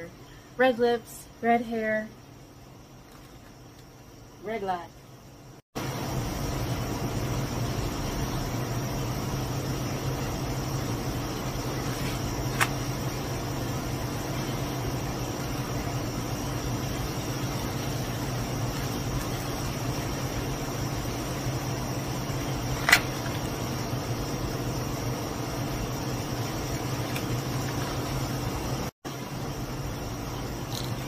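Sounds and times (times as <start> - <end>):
low machine hum: 0.0 - 31.0
thin high whine: 0.0 - 31.0.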